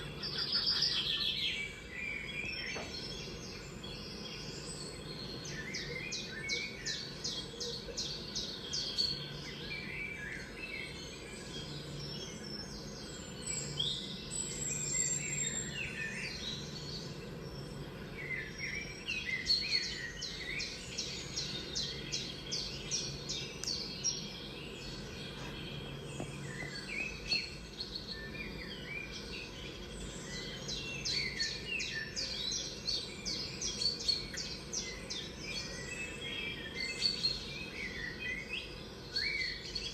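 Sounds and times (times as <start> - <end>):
songbirds trilling through speakers: 0.0 - 39.9.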